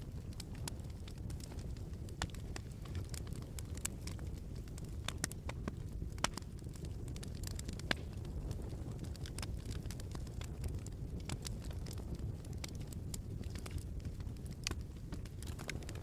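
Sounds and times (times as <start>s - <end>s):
low steady fire rumble: 0.0s - 16.0s
wood fire crackling: 0.0s - 16.0s.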